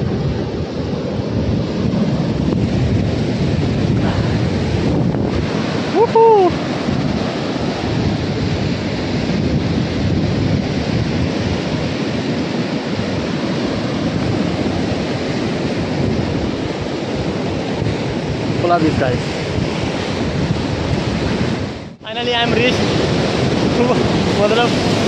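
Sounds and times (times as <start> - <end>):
sea waves surging on beach: 0.0 - 25.0
wind buffeting microphone: 0.0 - 25.0.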